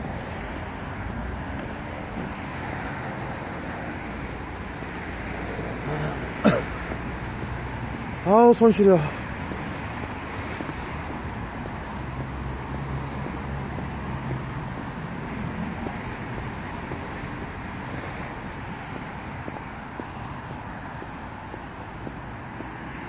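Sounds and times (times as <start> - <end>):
city road traffic: 0.0 - 23.0
low engine hum: 0.0 - 23.0.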